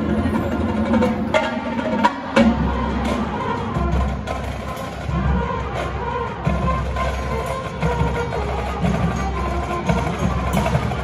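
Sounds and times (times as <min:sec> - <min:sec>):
marching band playing: 0:00.0 - 0:11.0.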